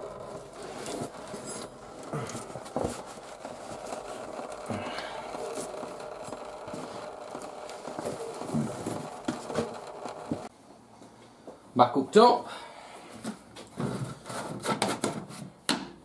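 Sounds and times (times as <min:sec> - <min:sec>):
steady faint hum: 0:00.0 - 0:13.4.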